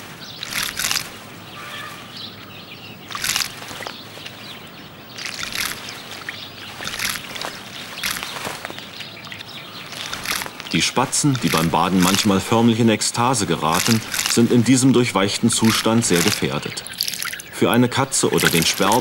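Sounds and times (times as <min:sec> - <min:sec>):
sparrow splashing in puddle: 0:00.1 - 0:01.3, 0:03.0 - 0:19.0.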